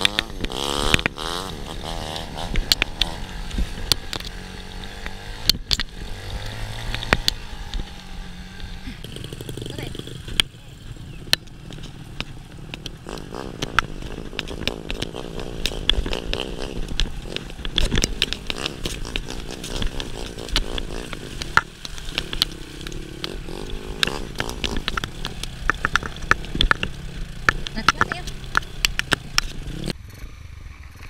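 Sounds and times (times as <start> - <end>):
knocks and rattles over rough ground: 0.0 - 30.0
motorcycle engine under load: 0.0 - 31.0.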